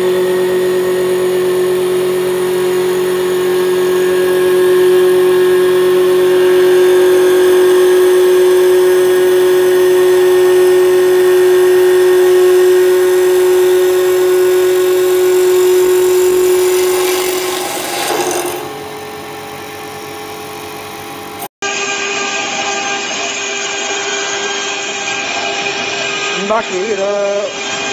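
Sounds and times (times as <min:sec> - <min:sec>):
machine running: 0:00.0 - 0:27.9
wood lathe cutter whining: 0:00.0 - 0:27.9.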